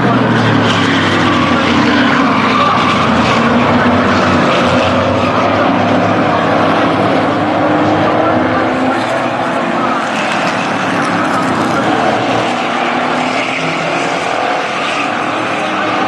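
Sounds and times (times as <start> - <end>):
race truck engines passing: 0.0 - 16.0.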